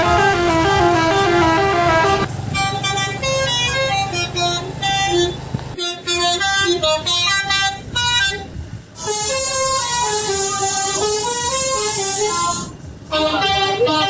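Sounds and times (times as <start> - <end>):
multi-tone horn playing a tune: 0.0 - 14.0.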